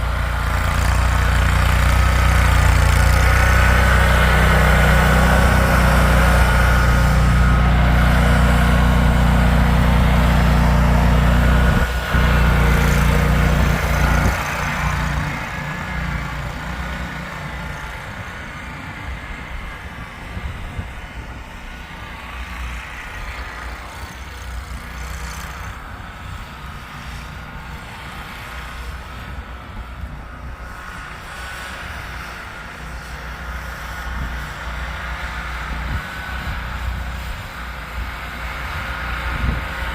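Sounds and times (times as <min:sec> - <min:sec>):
rough engine rumble: 0:00.0 - 0:39.9
vehicle engine deep hum: 0:00.0 - 0:39.9.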